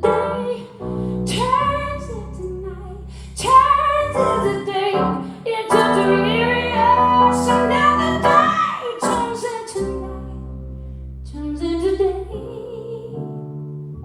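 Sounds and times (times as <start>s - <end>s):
woman singing: 0.0s - 10.6s, 11.3s - 13.4s.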